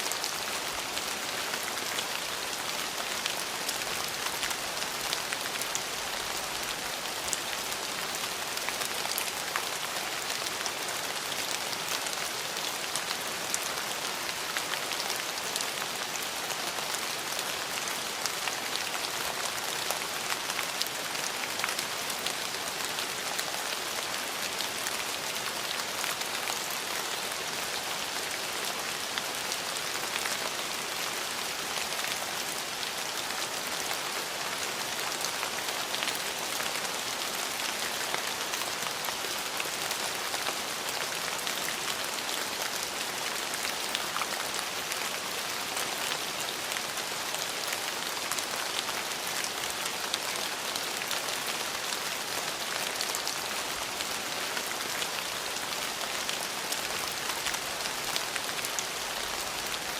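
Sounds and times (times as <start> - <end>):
rain on hard surfaces: 0.0 - 59.9.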